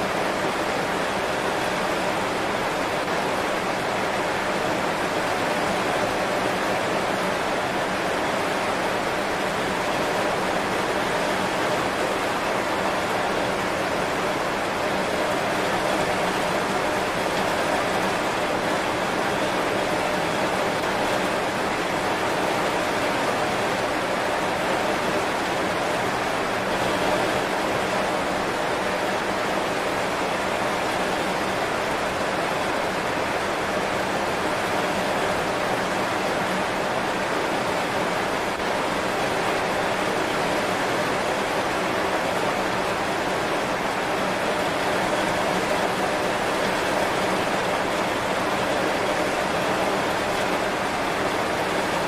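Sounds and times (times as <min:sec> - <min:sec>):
heavy rain on leaves: 0:00.0 - 0:52.0.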